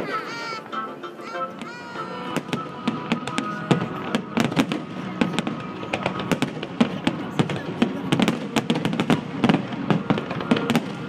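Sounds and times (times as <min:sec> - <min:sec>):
music with held notes: 0:00.0 - 0:11.0
fireworks bursting with bangs: 0:01.5 - 0:11.0.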